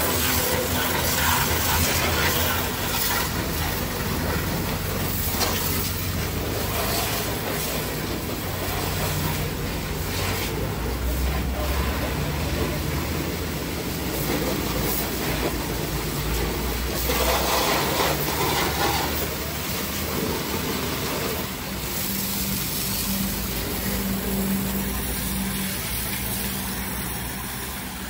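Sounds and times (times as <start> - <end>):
pressure washer spray hissing: 0.0 - 28.0
pump motor humming: 0.0 - 28.0.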